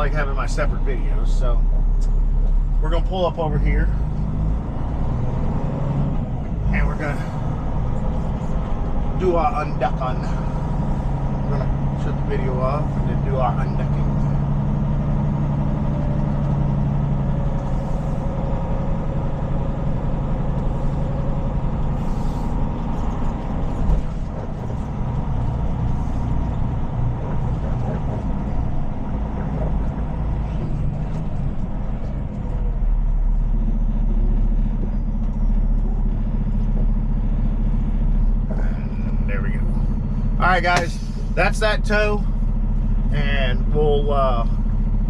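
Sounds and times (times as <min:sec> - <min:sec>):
diesel truck engine running: 0:00.0 - 0:45.0.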